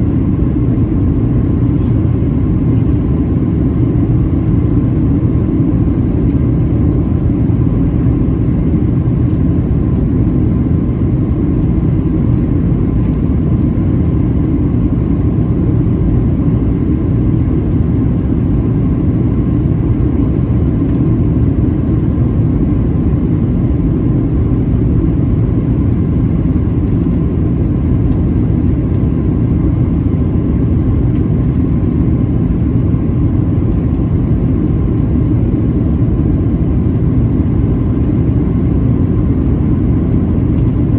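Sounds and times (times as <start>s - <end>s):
faint steady whine: 0.0s - 40.9s
jet engine rumble in cabin: 0.0s - 40.9s.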